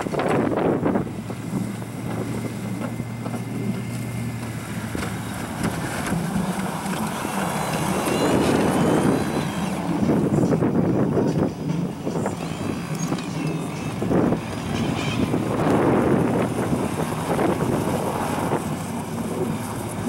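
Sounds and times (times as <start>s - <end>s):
truck snowplow pushing snow: 0.0s - 20.0s.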